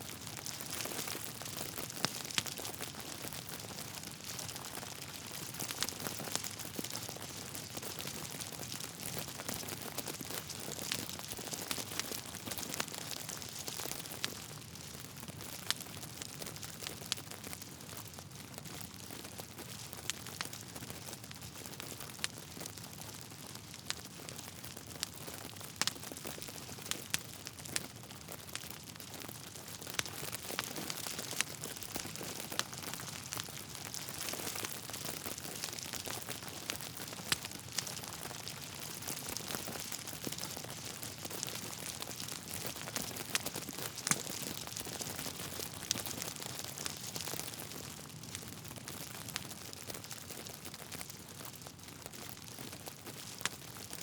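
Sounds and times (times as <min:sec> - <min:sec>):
wood fire crackling: 0:00.1 - 0:54.0.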